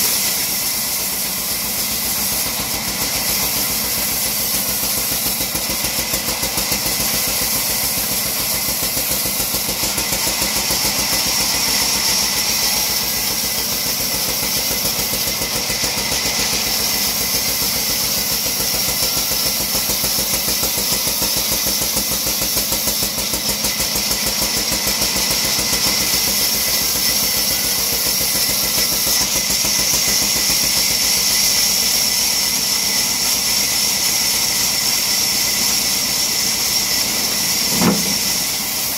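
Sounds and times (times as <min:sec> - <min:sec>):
band saw running with whine: 0:00.0 - 0:38.9.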